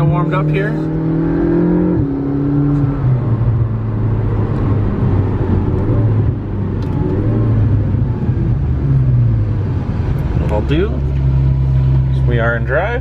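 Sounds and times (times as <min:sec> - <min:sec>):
car engine running: 0:00.0 - 0:13.0
road and tyre noise: 0:00.0 - 0:13.0.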